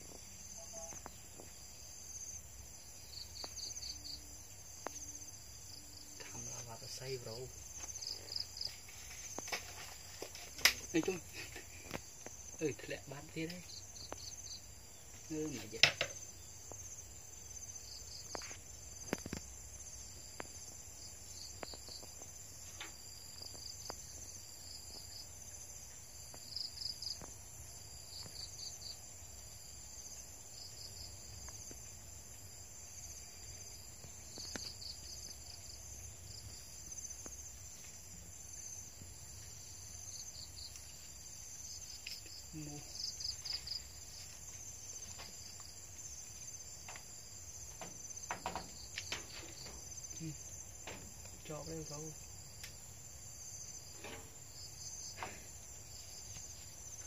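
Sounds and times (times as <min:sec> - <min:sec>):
insect chirps: 0:00.0 - 0:57.0
insects droning: 0:00.0 - 0:57.0.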